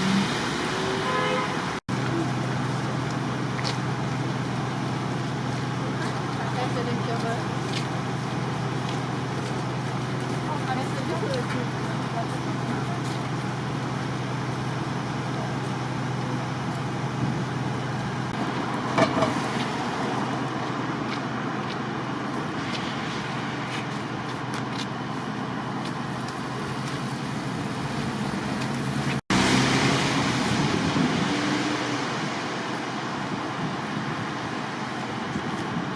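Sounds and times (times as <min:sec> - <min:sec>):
city street traffic: 0:00.0 - 0:35.9.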